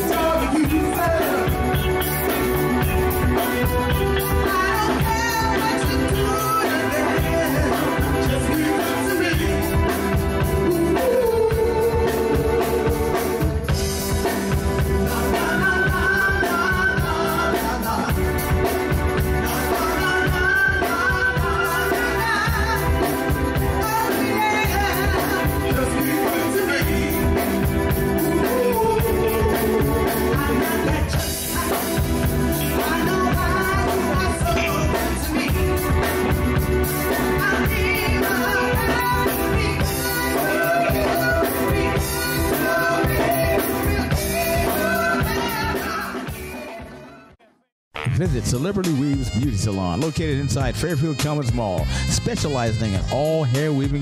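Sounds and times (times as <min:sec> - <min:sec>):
drum beat: 0:00.0 - 0:47.1, 0:48.0 - 0:54.0
person singing: 0:00.0 - 0:54.0
soul band playing: 0:00.0 - 0:54.0.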